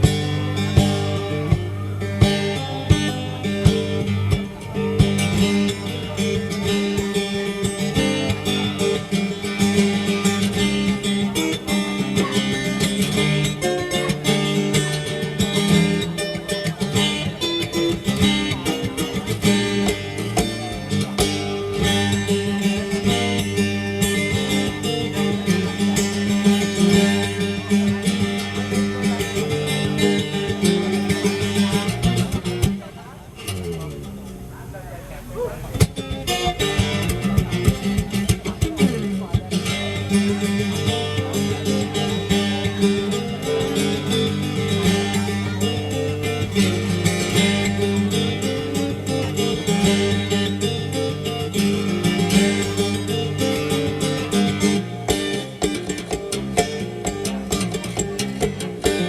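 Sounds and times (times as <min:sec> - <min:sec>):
percussive guitar slaps: 0:00.0 - 0:34.5, 0:35.7 - 0:59.0
fingerstyle acoustic guitar: 0:00.0 - 0:59.0.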